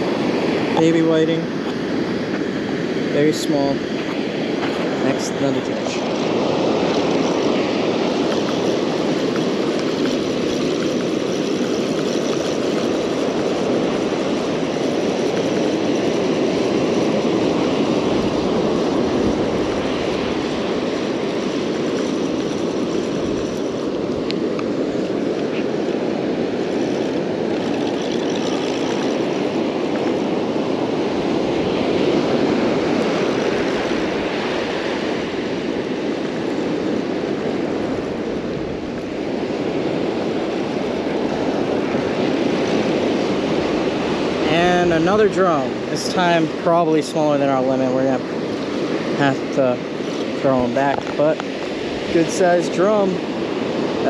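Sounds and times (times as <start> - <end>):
wind rushing: 0.0 - 54.0.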